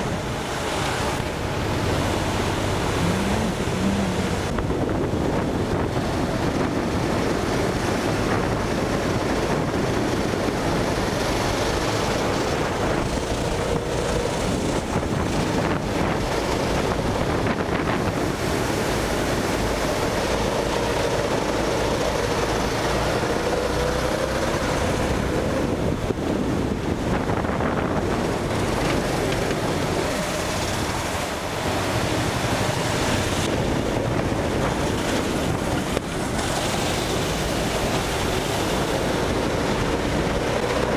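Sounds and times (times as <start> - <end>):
go-kart engine running: 0.0 - 40.9
wind buffeting microphone: 0.0 - 40.9.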